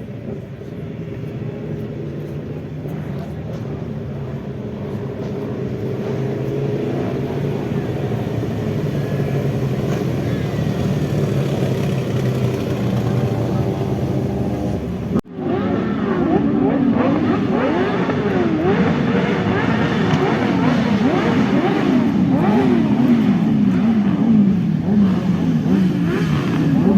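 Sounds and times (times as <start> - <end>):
motorcycle engine steady: 0.0 - 26.9
motorcycle engines revving: 0.0 - 26.9.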